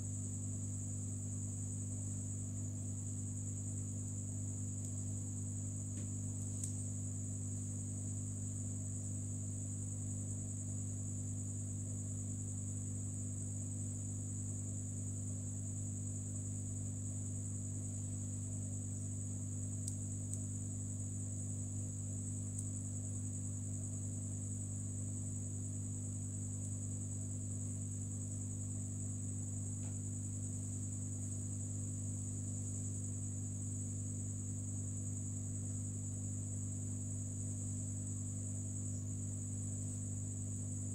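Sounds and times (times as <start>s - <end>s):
low electrical hum: 0.0s - 40.9s.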